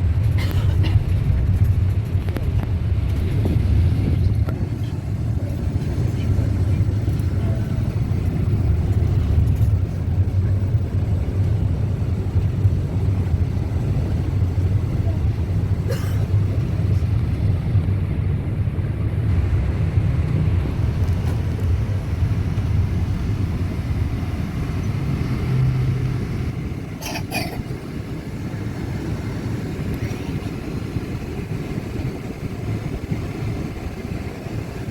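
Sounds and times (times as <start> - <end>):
boat engine rumbling: 0.0 - 34.9.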